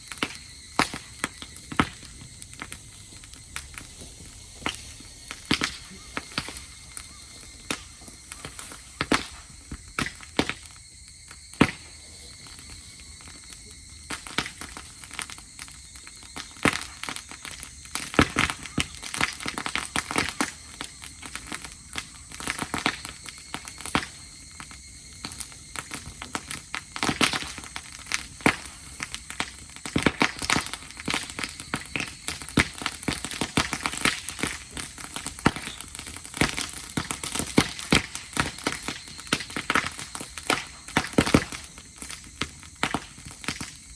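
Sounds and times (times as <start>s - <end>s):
dry grass crackling in campfire: 0.0s - 43.9s.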